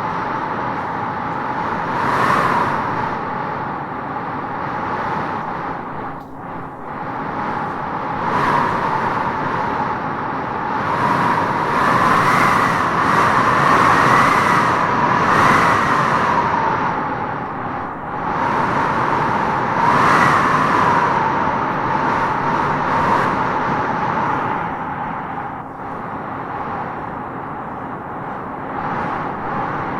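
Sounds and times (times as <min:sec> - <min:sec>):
whistling wind howl: 0:00.0 - 0:29.9
wind gusting through trees: 0:00.0 - 0:29.9.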